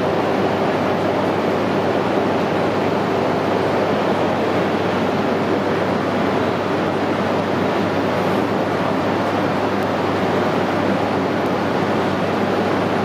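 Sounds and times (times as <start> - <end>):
idle train rushing noise: 0.0 - 13.0.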